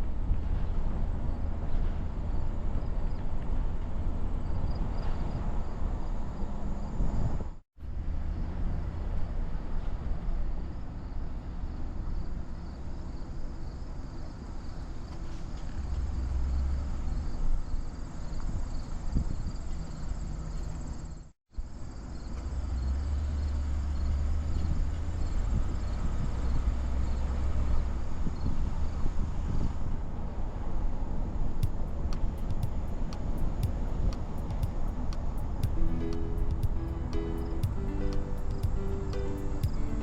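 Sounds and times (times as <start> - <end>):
car engine and road noise: 0.0 - 13.0, 13.9 - 19.2, 22.0 - 40.0.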